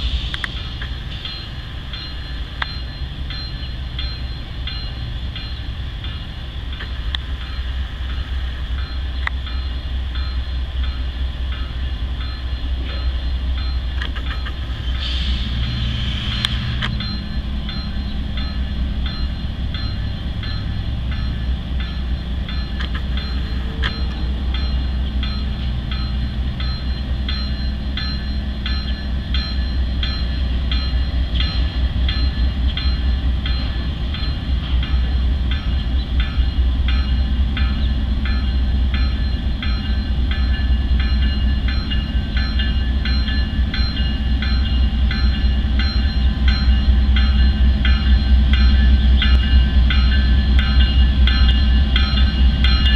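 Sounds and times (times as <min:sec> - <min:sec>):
freight train rumbling: 0:00.0 - 0:52.9
ringing high tones: 0:00.5 - 0:14.4, 0:15.6 - 0:52.9.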